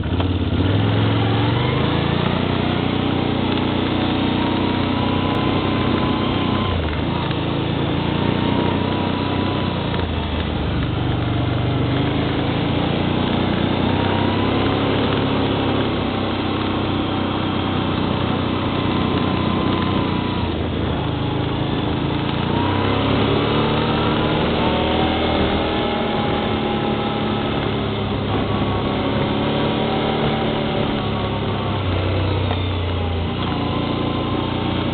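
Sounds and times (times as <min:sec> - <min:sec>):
atv engine running: 0:00.0 - 0:34.9.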